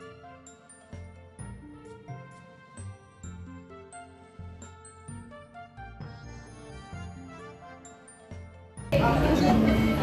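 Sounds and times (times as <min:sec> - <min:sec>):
light background music tune: 0:00.0 - 0:10.0.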